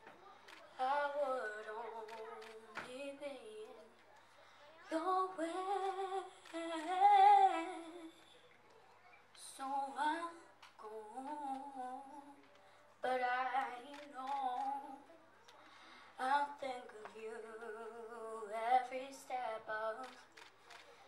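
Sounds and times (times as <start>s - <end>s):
girl singing into a microphone: 0.3s - 4.0s, 4.7s - 8.3s, 9.4s - 15.2s, 16.2s - 20.4s.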